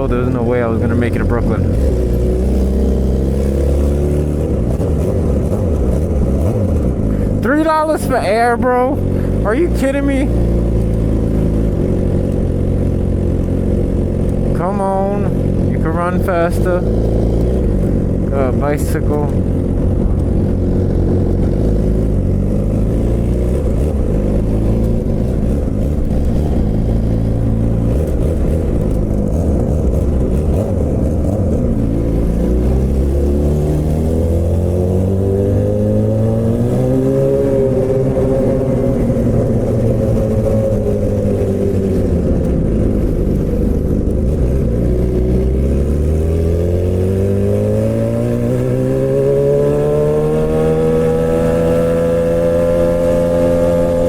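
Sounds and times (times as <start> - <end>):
motorcycle engine under way: 0.0 - 54.0.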